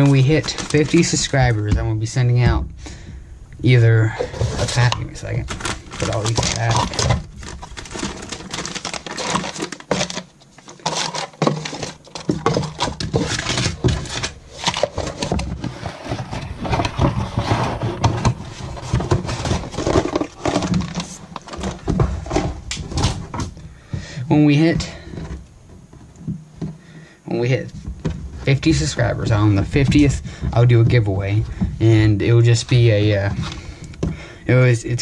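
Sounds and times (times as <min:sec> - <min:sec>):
plastic packets rustling and crinkling: 0:00.0 - 0:02.2, 0:03.7 - 0:24.0, 0:27.6 - 0:35.0.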